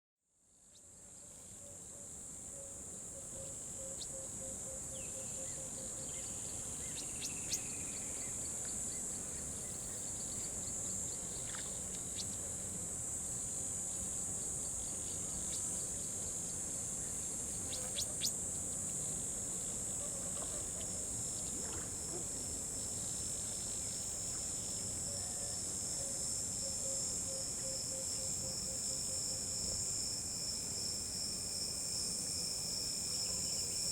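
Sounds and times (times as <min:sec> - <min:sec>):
lower pulsing insect call: 0:00.3 - 0:33.9
crickets and insects trilling: 0:00.8 - 0:33.9.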